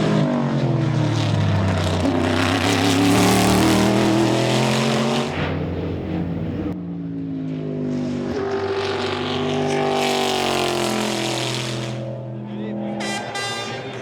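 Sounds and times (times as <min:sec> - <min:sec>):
race car engine at speed: 0:00.0 - 0:14.0.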